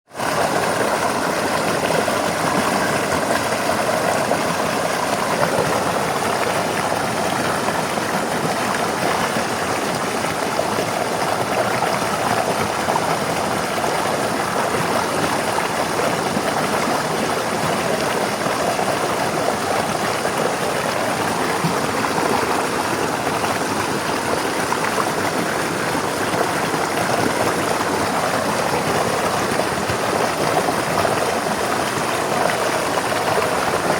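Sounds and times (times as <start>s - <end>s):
river water flowing over rocks: 0.1s - 33.9s.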